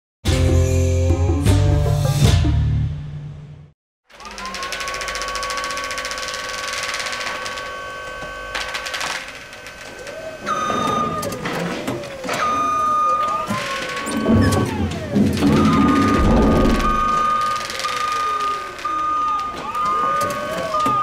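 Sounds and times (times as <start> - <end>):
forklift motor whining: 4.1 - 21.0.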